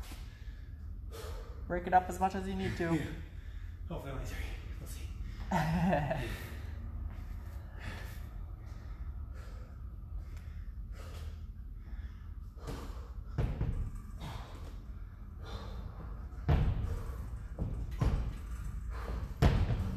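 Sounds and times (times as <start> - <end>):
man breathing hard: 0.0 - 1.7, 2.7 - 19.9
steady low hum: 0.0 - 19.9.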